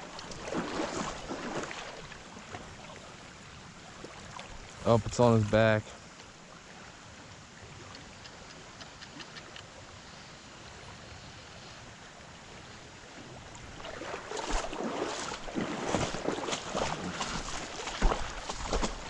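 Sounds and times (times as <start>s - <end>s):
water splashing and sloshing: 0.0s - 10.0s, 12.0s - 19.0s
stream water rushing: 0.0s - 11.1s, 11.8s - 19.0s.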